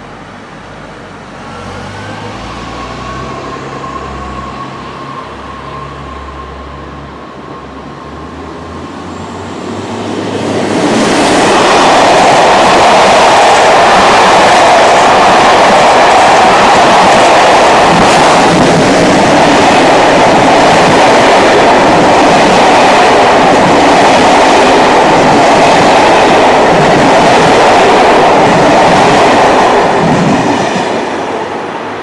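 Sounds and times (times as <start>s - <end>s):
passenger train passing: 0.0s - 32.0s.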